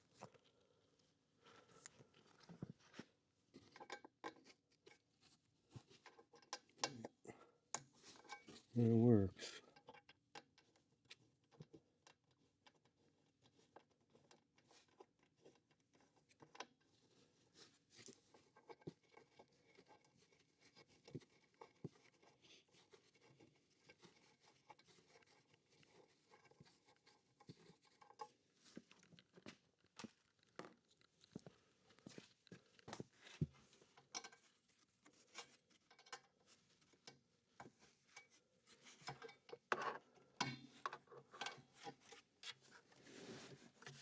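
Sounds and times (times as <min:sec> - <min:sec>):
small clicks and taps of handling: 0:00.1 - 0:08.8, 0:09.7 - 0:44.0.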